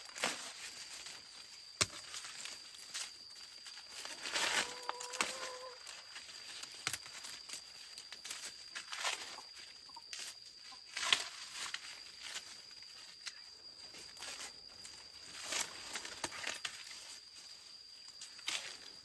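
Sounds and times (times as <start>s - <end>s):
dry corn leaves rustling: 0.0s - 19.0s.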